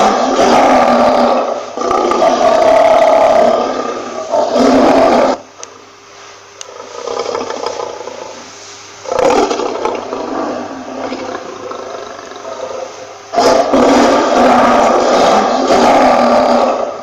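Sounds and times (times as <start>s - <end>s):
lion roaring: 0.0s - 5.5s, 6.7s - 8.4s, 9.0s - 17.0s.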